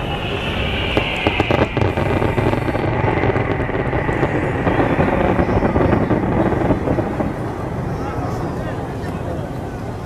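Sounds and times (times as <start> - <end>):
fireworks crackling and popping: 0.0 - 9.2
crowd noise: 0.0 - 10.0.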